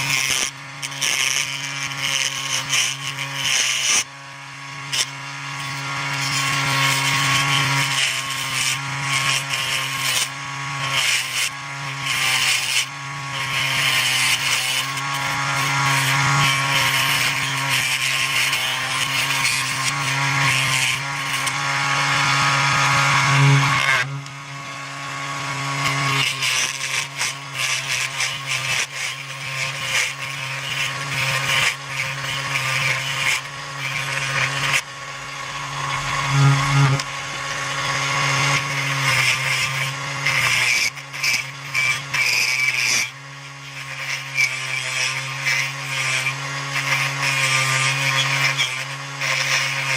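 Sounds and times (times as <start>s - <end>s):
turning tool scraping wood: 0.0s - 49.9s
wood lathe humming: 0.0s - 49.9s.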